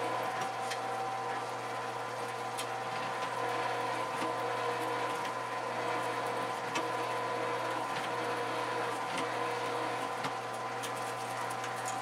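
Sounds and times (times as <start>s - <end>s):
drill press humming: 0.0s - 12.0s.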